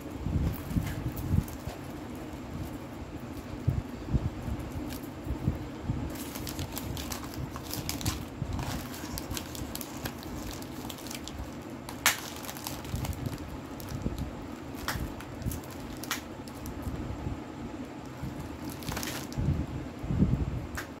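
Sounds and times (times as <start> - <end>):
foil wrapper crinkling: 0.0 - 17.0, 18.0 - 19.5.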